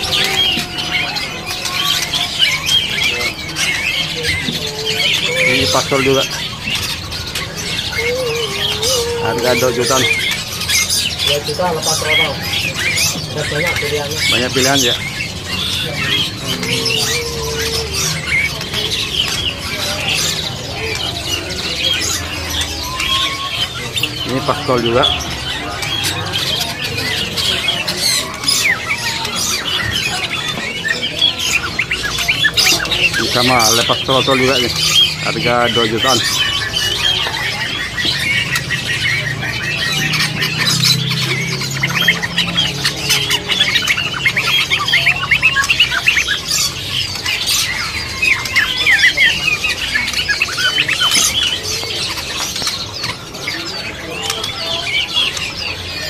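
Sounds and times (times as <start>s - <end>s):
songbirds chirping and calling: 0.0s - 56.0s.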